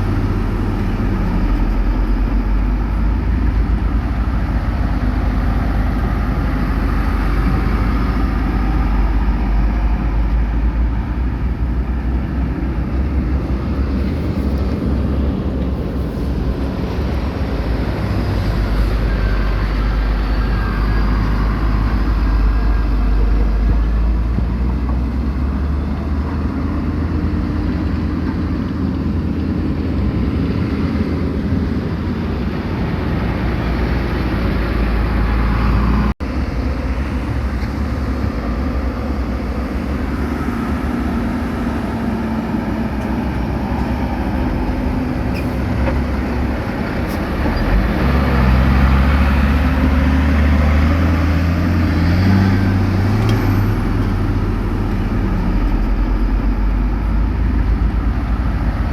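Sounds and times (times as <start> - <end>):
diesel machinery rumbling: 0.0 - 58.9.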